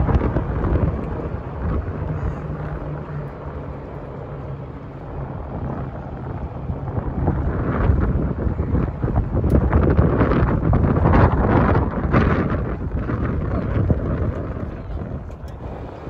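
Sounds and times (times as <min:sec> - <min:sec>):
golf cart rumble: 0:00.0 - 0:16.0
wind buffeting microphone: 0:00.0 - 0:16.0.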